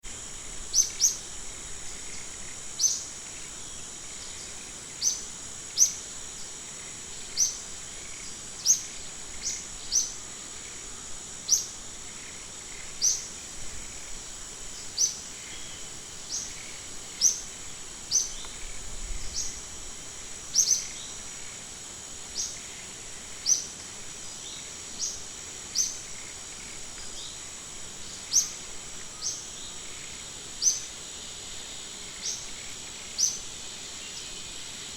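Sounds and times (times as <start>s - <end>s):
high-pitched insect drone: 0.0s - 34.9s.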